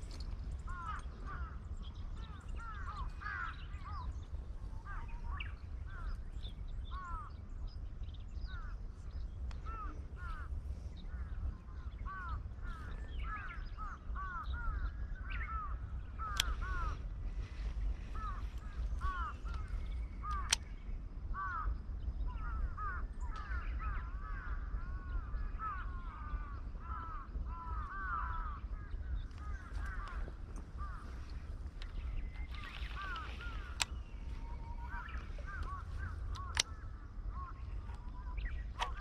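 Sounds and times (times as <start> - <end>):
birds calling: 0.0 - 39.0
steady low rumble: 0.0 - 39.0.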